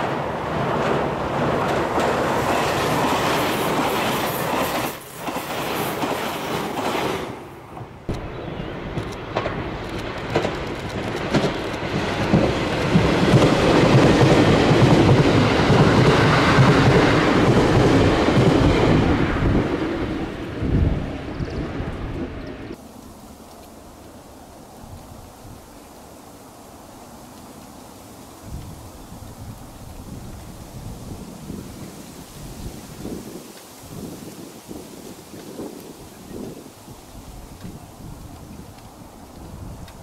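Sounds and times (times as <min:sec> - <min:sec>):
train crossing steel bridge: 0:00.0 - 0:40.0
train passing close by: 0:00.0 - 0:40.0.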